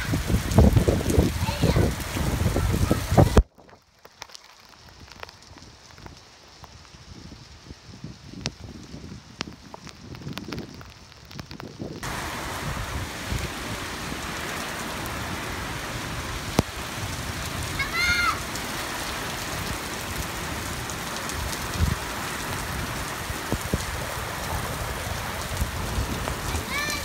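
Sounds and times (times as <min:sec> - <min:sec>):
steady rain on rooftops: 0:00.0 - 0:27.0.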